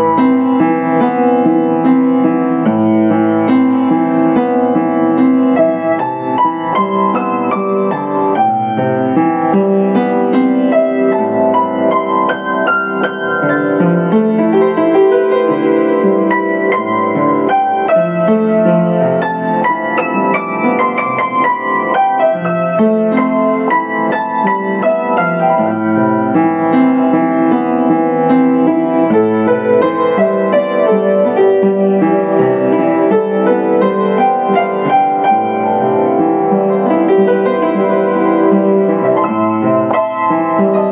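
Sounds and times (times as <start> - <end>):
solo upright piano piece: 0.0 - 40.9.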